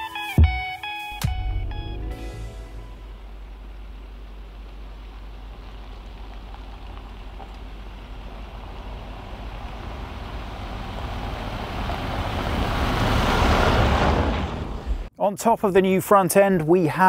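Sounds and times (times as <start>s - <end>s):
road noise: 1.0s - 15.1s
diesel engine driving: 1.2s - 15.1s.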